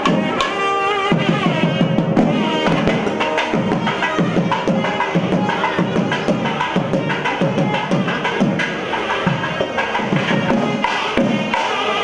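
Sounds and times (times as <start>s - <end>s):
quick sharp drum strokes: 0.0s - 12.0s.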